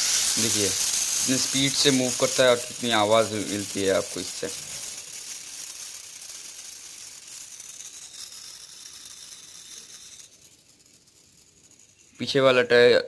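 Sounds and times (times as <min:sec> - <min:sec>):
toy spring motor gear whirr: 0:00.0 - 0:13.0.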